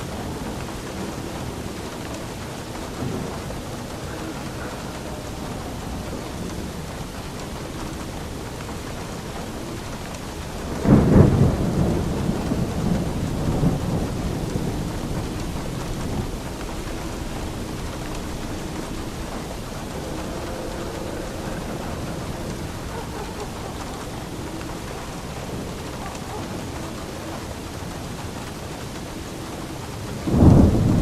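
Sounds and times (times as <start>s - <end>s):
steady rain: 0.0s - 31.0s
thunder crack and rumble: 0.0s - 31.0s.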